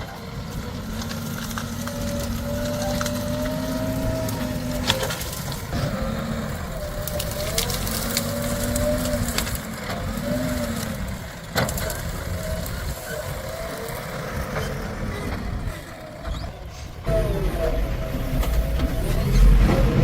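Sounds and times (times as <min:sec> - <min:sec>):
diesel engine under load: 0:00.0 - 0:20.0.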